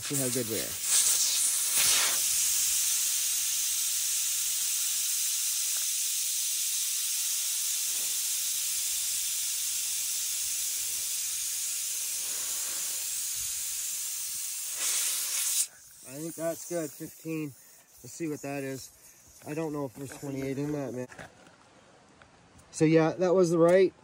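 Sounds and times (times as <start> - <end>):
air hissing out of tire valve: 0.0 - 21.1.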